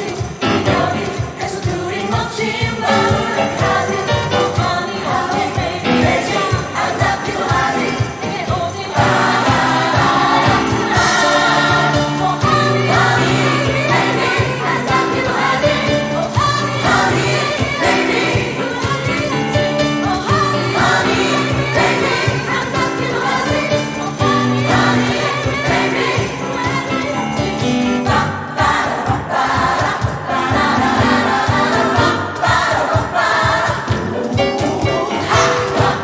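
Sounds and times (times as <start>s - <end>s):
band with percussion: 0.0s - 36.0s
gospel choir singing: 0.0s - 36.0s.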